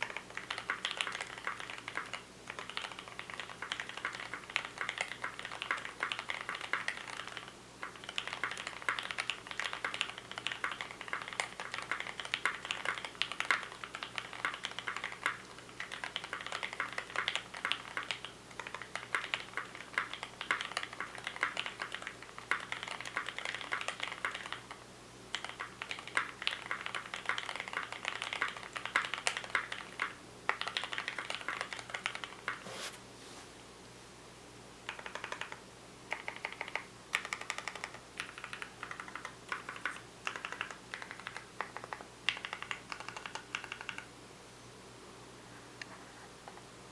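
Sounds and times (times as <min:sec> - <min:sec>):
mechanical keyboard typing: 0:00.0 - 0:32.6, 0:34.9 - 0:44.1.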